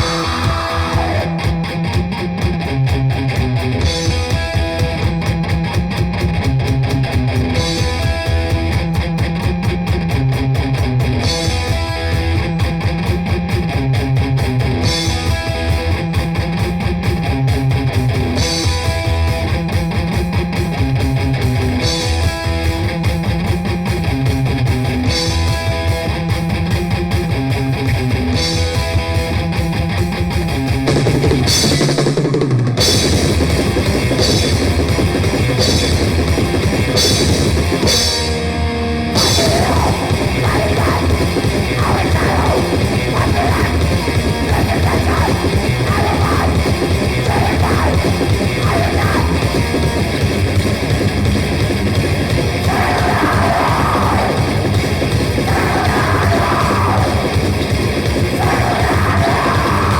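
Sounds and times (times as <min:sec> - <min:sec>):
distorted guitar and bass: 0:00.0 - 0:59.9
grindcore band playing: 0:00.0 - 0:59.9.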